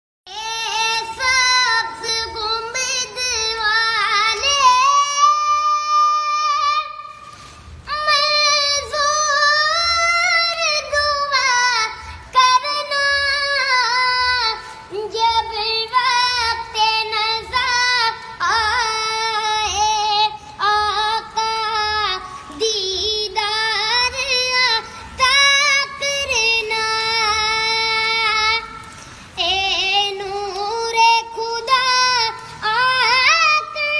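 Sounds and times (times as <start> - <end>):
boy singing: 0.3 - 33.9.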